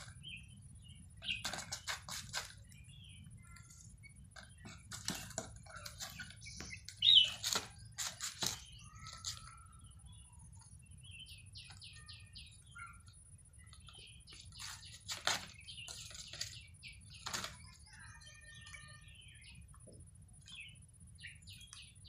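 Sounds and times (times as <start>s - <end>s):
chicks cheeping: 0.0s - 22.0s.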